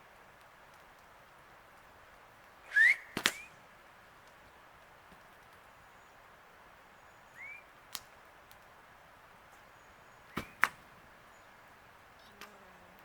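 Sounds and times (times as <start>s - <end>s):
faint steady hiss: 0.0s - 13.0s
firewood popping: 0.0s - 13.0s.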